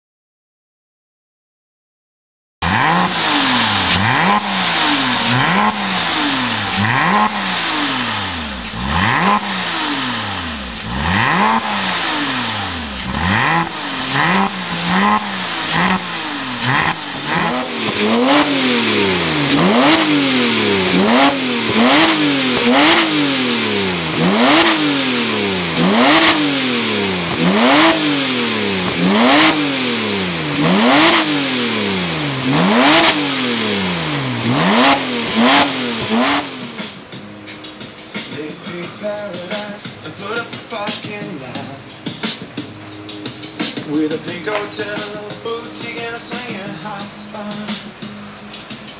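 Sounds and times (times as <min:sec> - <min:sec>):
sports car engine revving: 0:02.6 - 0:48.9.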